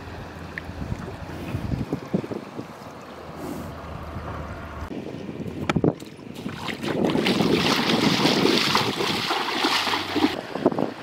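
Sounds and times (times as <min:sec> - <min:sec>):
wind buffeting microphone: 0:00.7 - 0:11.0.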